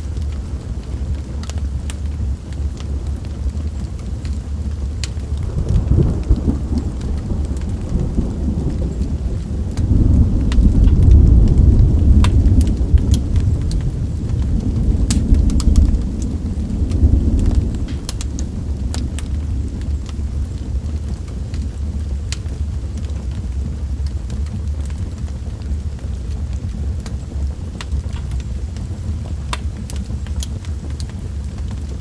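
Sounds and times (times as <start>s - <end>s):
steady rain: 0.0s - 32.0s
thunder rumbling: 0.0s - 32.0s
wood fire crackling: 0.0s - 32.0s.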